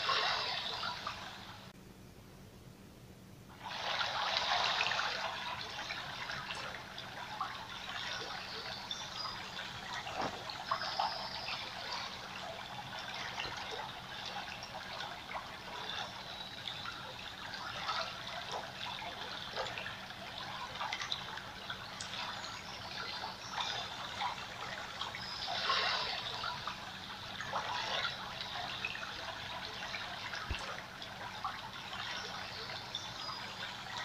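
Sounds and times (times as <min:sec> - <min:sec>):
water trickling and bubbling: 0:00.0 - 0:01.7, 0:03.5 - 0:34.0.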